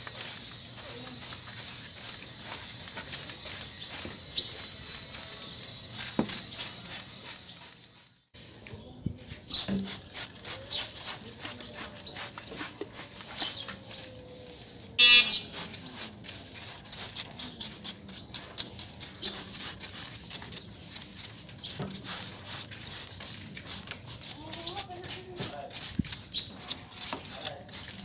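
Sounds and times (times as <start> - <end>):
brush scrubbing wet parts: 0.0 - 8.2, 9.3 - 28.0.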